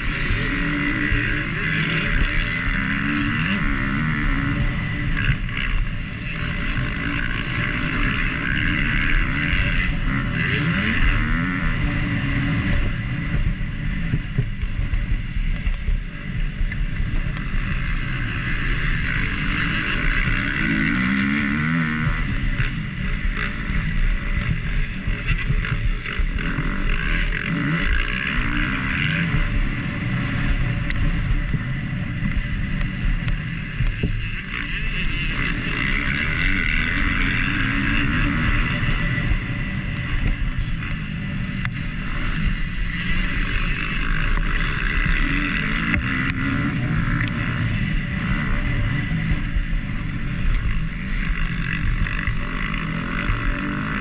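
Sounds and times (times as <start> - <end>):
motocross engine revving: 0.0 - 15.4, 16.2 - 54.0.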